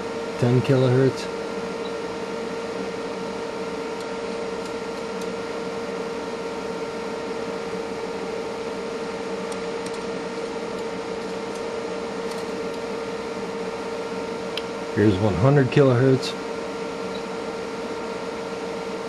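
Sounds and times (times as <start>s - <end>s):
electronics fan whir: 0.0s - 19.0s.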